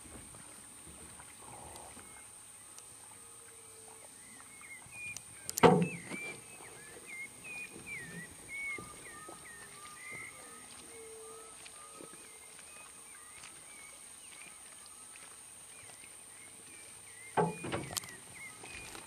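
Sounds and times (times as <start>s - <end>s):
birds chirping: 1.5s - 19.0s.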